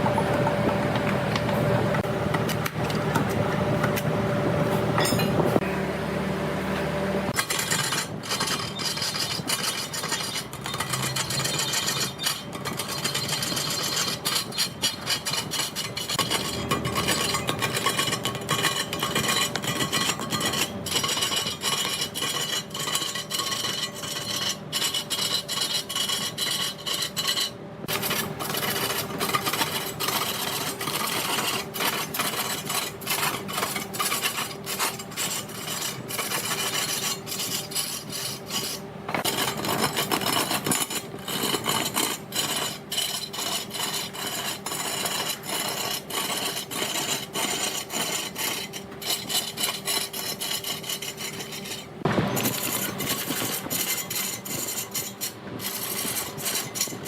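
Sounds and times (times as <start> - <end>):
tool scraping spinning wood: 7.3 - 57.0.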